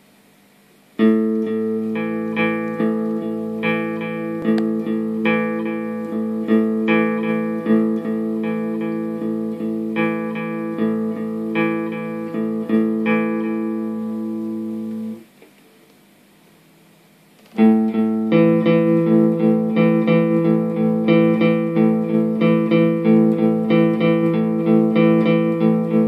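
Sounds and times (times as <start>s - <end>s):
guitar playing a riff: 1.0s - 15.3s, 17.5s - 26.0s.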